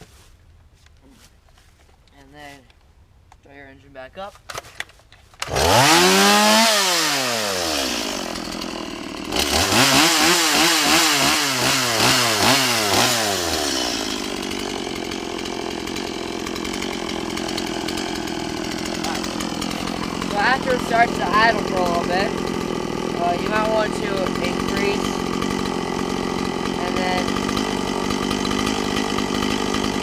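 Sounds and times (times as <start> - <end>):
chainsaw engine revving and idling: 5.4 - 30.0.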